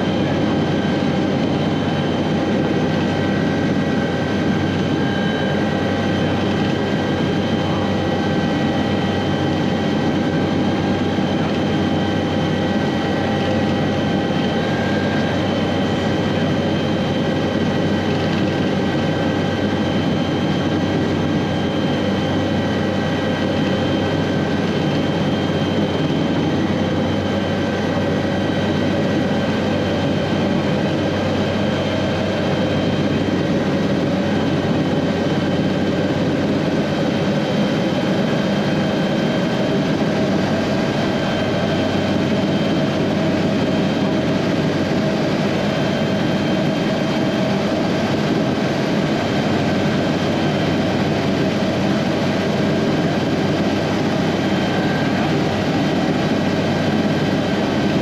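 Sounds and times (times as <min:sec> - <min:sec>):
helicopter rotor noise: 0:00.0 - 0:58.0
turbine engine whine: 0:00.0 - 0:58.0.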